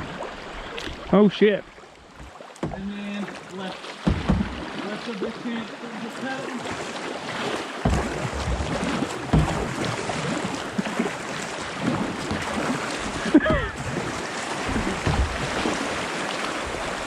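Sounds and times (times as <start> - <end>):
floodwater rushing: 0.0 - 17.0
water splashes: 0.0 - 17.0
kayak hull knocks: 2.0 - 17.0.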